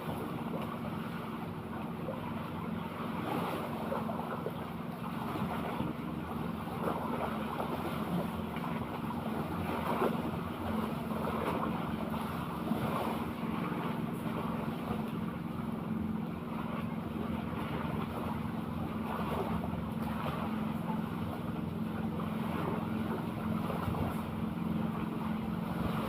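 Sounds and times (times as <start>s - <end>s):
boat engine running: 0.0s - 26.0s
water noise: 0.0s - 26.0s
wind: 0.0s - 26.0s.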